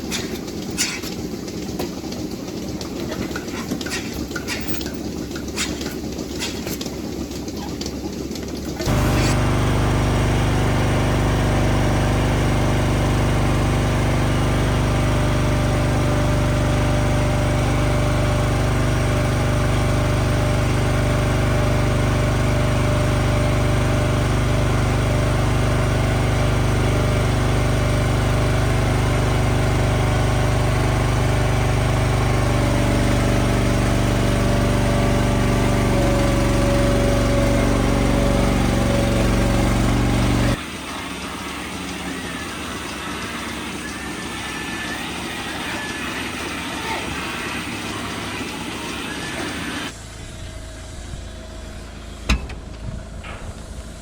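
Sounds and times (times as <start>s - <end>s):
farm machinery engine running: 0.0s - 54.0s.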